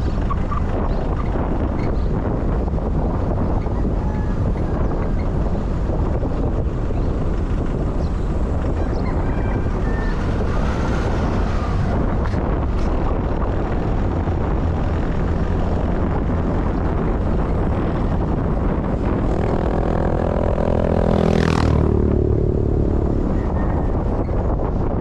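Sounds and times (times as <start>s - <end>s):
low wind rumble: 0.0s - 25.0s
vehicle engine passing by: 3.9s - 25.0s.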